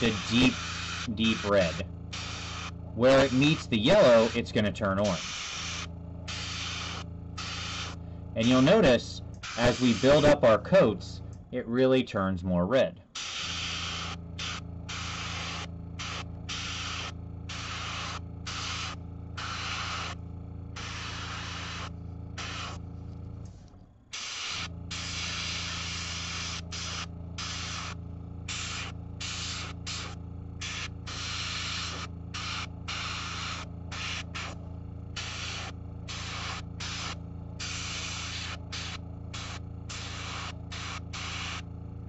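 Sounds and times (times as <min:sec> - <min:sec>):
airbrush spraying hiss: 0:00.0 - 0:04.4, 0:05.0 - 0:10.4, 0:13.2 - 0:20.2, 0:20.8 - 0:22.8, 0:24.1 - 0:34.6, 0:35.2 - 0:41.7
steady low hum: 0:00.0 - 0:42.0.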